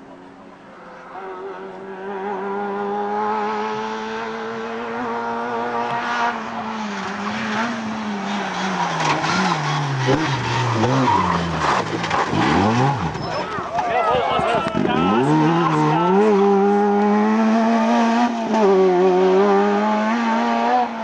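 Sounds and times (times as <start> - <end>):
rally car engine at high revs: 0.6 - 13.7, 14.8 - 21.0.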